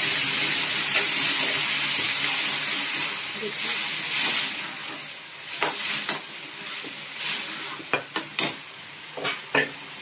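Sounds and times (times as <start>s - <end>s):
food sizzling: 0.0s - 10.0s.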